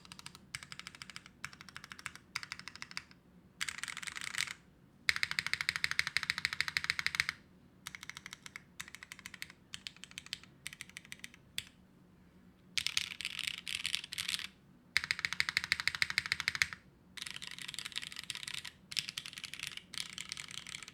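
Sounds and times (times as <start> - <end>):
mechanical keyboard typing: 0.0 - 11.4, 12.8 - 20.9.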